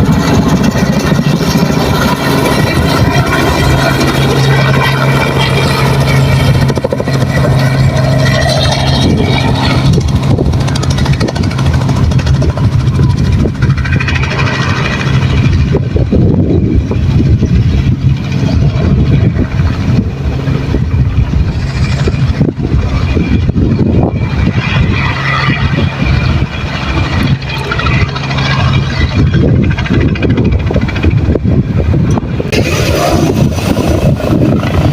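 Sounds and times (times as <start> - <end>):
helicopter engine and rotor chop: 0.0 - 34.9
high whine: 0.0 - 34.9.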